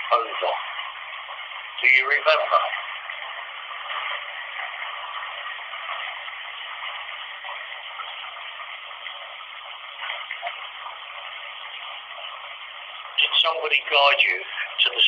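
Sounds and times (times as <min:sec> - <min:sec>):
hiss of running water: 0:00.0 - 0:15.0.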